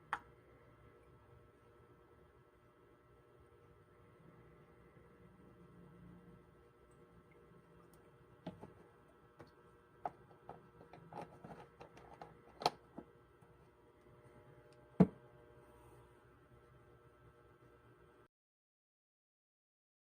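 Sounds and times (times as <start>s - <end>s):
faint steady hum: 0.0s - 18.3s.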